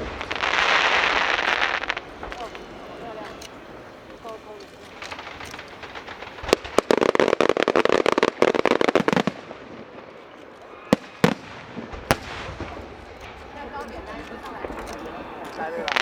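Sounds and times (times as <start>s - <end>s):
fireworks crackling pops: 0.0s - 16.0s
fireworks sharp bangs: 0.0s - 16.0s.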